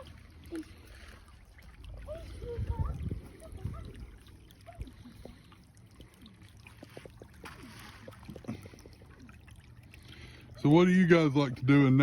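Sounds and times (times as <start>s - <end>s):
low steady rumble: 0.0s - 12.0s
small river trickling: 0.0s - 12.0s.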